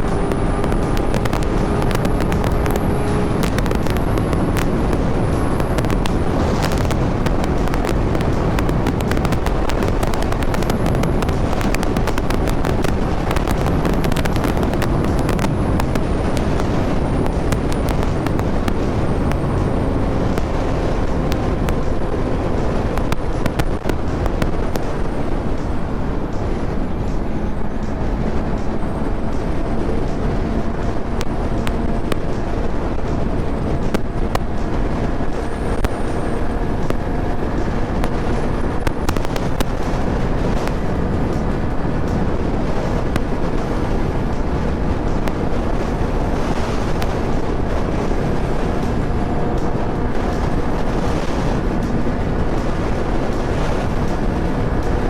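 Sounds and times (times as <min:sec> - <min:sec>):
motorcycle engine at highway speed: 0:00.0 - 0:55.0
sharp crackles: 0:00.0 - 0:55.0
wind rumble on microphone: 0:00.0 - 0:55.0.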